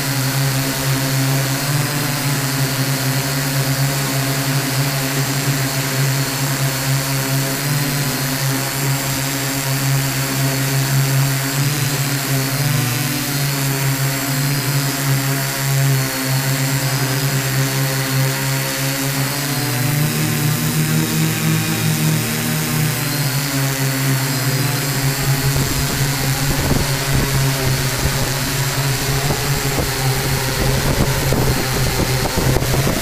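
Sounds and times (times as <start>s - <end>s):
drone motors buzzing: 0.0s - 33.0s.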